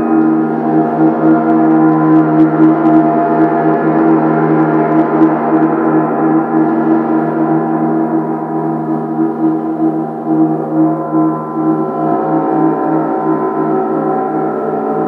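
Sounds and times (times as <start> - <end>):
gong ringing: 0.0 - 15.0.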